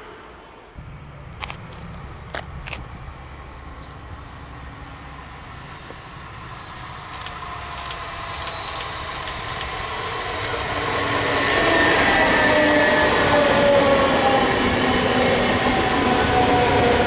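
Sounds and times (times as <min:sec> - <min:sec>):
electric train approaching on rails: 0:00.0 - 0:17.0
train whine: 0:00.0 - 0:17.0.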